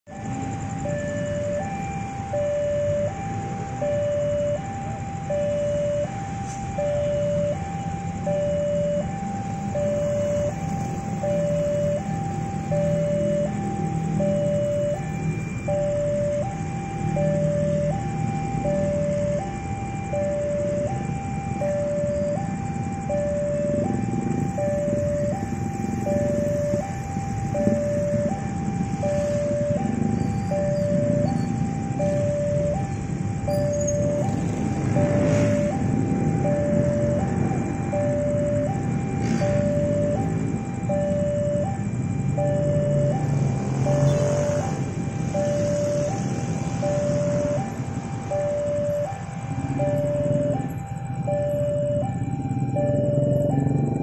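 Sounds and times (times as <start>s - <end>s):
two-tone crossing alarm: 0.0s - 54.0s
motorcycle engines idling: 0.1s - 54.0s.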